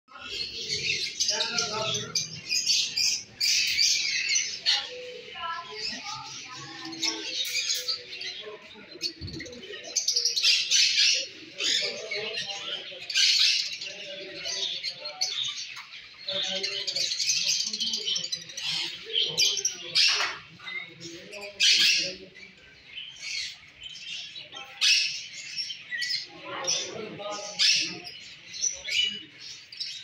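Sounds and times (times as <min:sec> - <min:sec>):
many birds chirping: 0:00.1 - 0:30.0.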